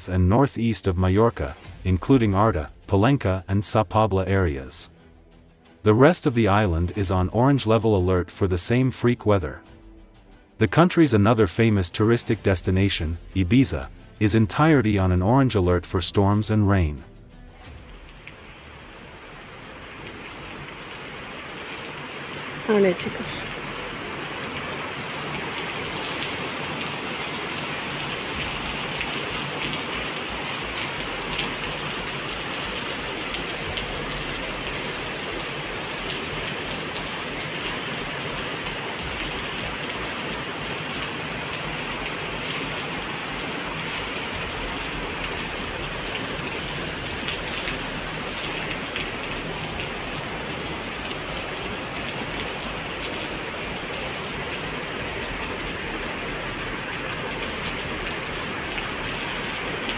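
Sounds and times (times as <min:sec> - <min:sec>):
heavy rain pouring: 0:00.0 - 0:04.9, 0:05.7 - 0:09.6, 0:10.3 - 0:59.9.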